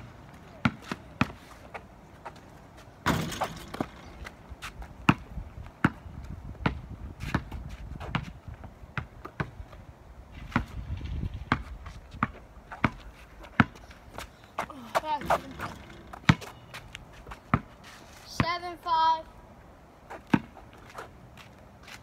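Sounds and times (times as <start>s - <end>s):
basketball bouncing on asphalt: 0.0s - 18.7s, 20.1s - 21.6s.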